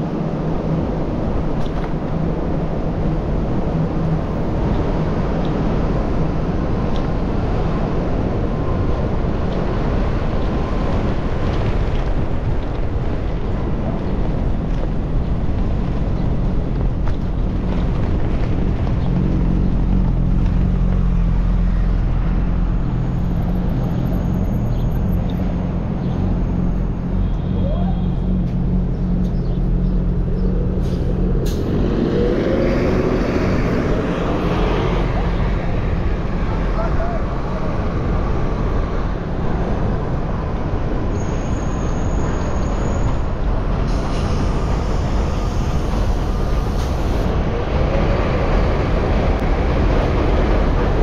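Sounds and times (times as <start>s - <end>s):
wind rushing over microphone: 0.0s - 41.2s, 42.2s - 51.0s
city street traffic: 0.0s - 51.0s.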